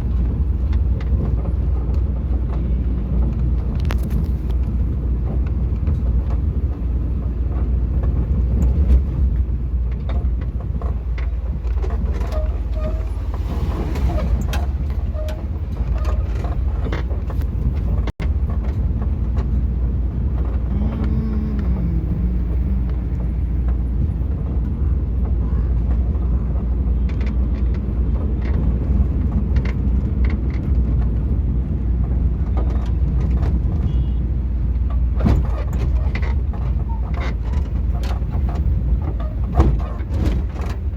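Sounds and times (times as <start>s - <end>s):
engine and road rumble: 0.0s - 40.9s.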